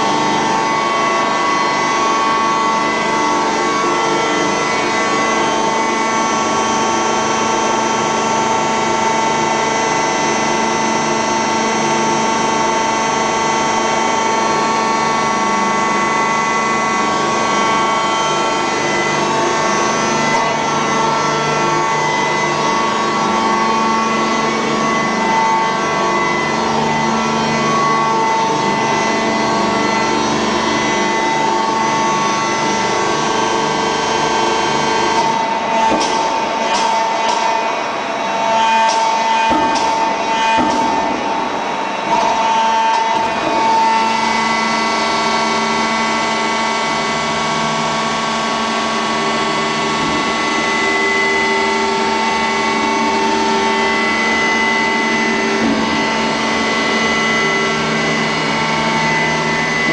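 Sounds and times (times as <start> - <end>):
lathe whine: 0.0 - 59.9.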